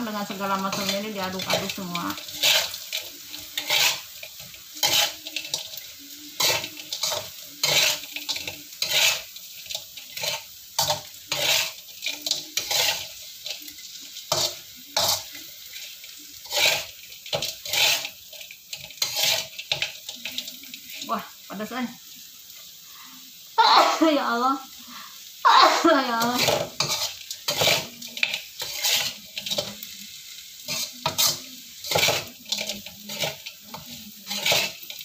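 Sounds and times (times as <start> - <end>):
spatula scraping a wok: 0.0 - 23.3, 24.6 - 35.0
steady sizzle of oil: 0.0 - 35.0.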